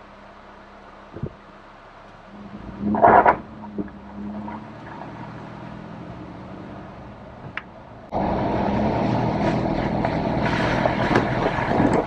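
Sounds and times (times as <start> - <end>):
hissing road noise on wet road: 0.0 - 12.0
low engine hum: 0.0 - 12.0.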